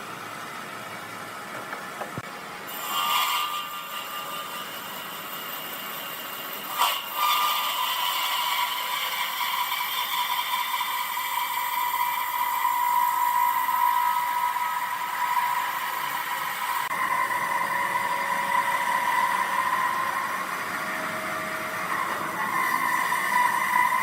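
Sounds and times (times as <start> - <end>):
woodworking machinery whining: 0.0 - 24.0.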